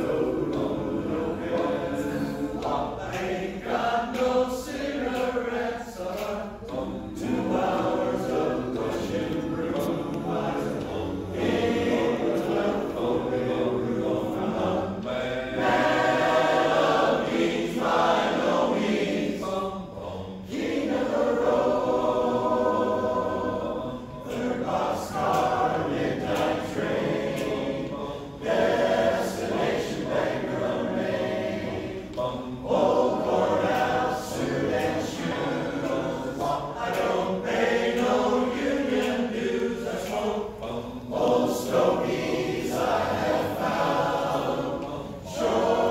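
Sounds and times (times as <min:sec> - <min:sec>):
men's chorus singing a cappella: 0:00.0 - 0:45.9.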